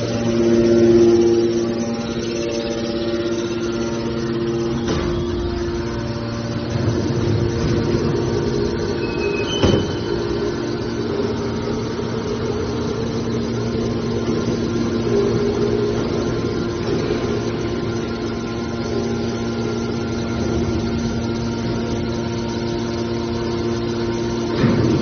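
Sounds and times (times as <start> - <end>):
hydraulic pump motor humming: 0.0 - 25.0.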